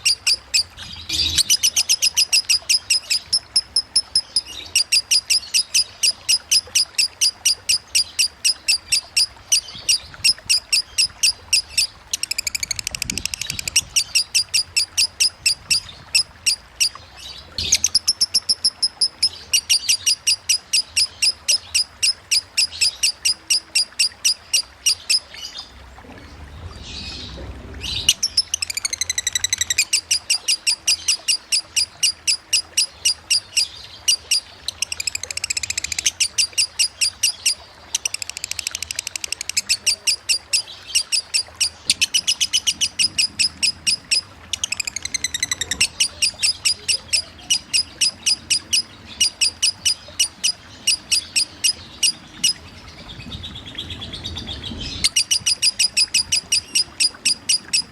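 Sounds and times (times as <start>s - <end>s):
lovebird chattering song: 0.0s - 25.8s, 26.9s - 57.9s.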